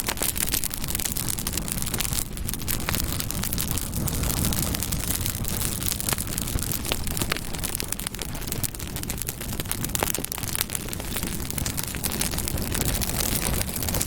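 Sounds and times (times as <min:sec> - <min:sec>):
burning wood crackling: 0:00.0 - 0:14.0
steady low rumble: 0:00.0 - 0:14.0.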